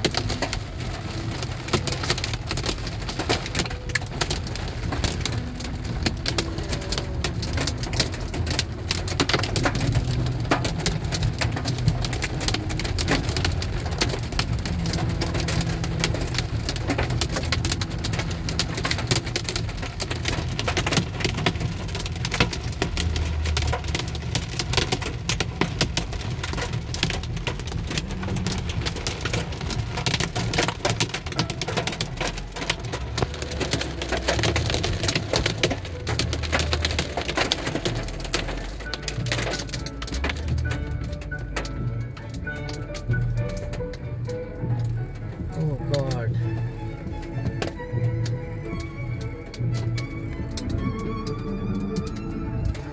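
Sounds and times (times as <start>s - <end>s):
car moving rumble: 0.0s - 52.9s
rain pelting a car roof: 0.0s - 52.9s.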